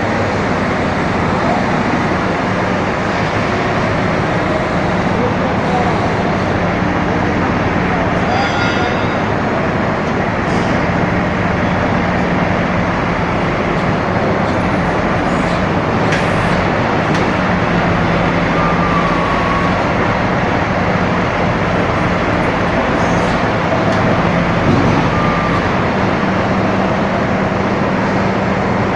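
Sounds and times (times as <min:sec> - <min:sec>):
backhoe loader engine running: 0:00.0 - 0:28.9.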